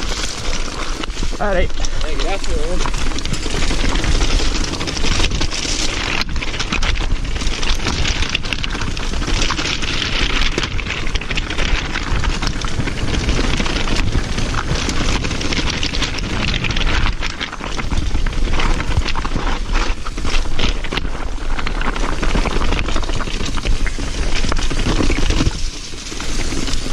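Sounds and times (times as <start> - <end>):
bike rattling: 0.0 - 26.9
bike tyres crunching on rocks: 0.0 - 26.9.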